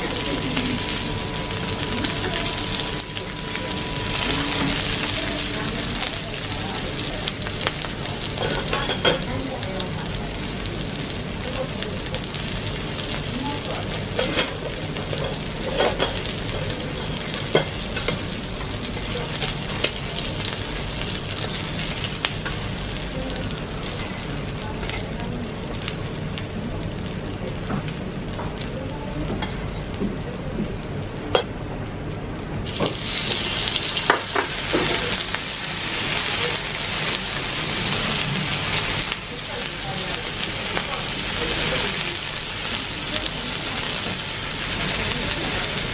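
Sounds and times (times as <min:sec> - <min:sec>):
meat sizzling on a grill: 0:00.0 - 0:31.4, 0:32.4 - 0:45.9.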